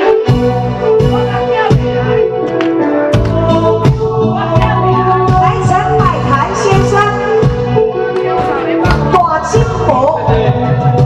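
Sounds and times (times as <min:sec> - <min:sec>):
steady beat: 0:00.4 - 0:11.0.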